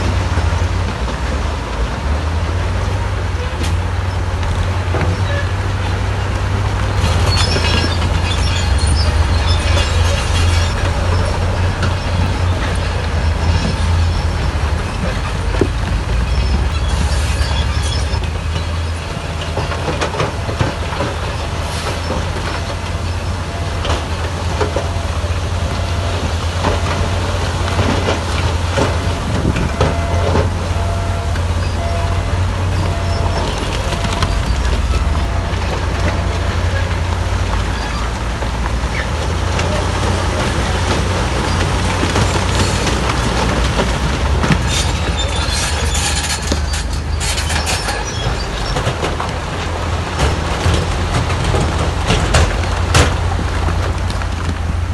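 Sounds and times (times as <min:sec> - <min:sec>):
bulldozer diesel engine rumble: 0:00.0 - 0:54.9
steel tracks squealing and clanking: 0:00.0 - 0:54.9.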